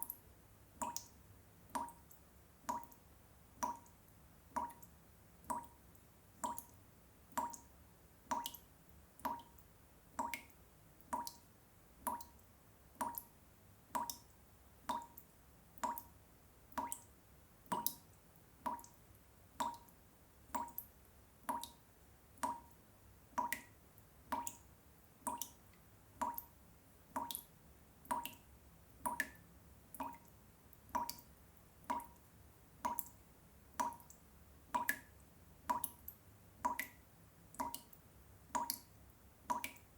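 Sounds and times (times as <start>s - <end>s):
water drops dripping into water: 0.0s - 0.2s, 0.8s - 21.8s, 22.4s - 39.9s.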